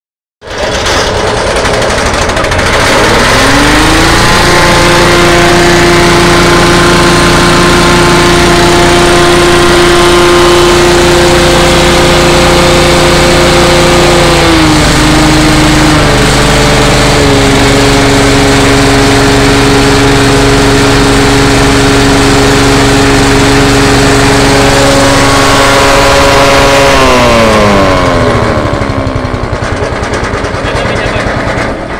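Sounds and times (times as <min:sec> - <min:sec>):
gasoline engine running: 0:00.4 - 0:31.9.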